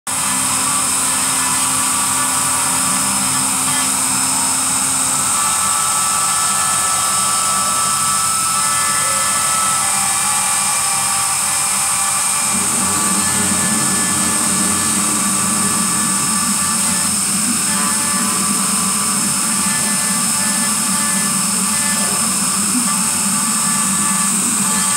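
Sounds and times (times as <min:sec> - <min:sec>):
rotary tool whining and grinding: 0:00.1 - 0:24.9.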